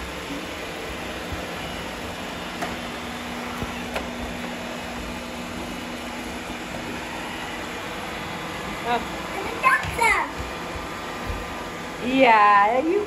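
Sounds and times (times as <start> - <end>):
robot vacuum cleaners running: 0.0 - 13.0
steady hum: 0.0 - 13.0.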